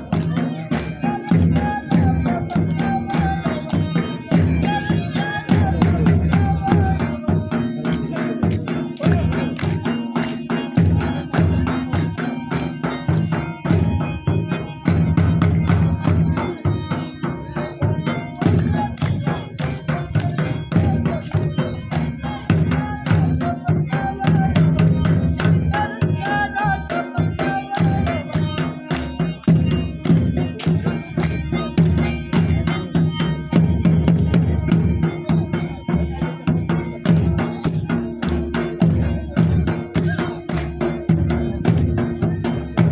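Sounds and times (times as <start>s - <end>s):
drum beaten in fast rhythm: 0.0s - 42.9s
wavering melody: 0.0s - 42.9s.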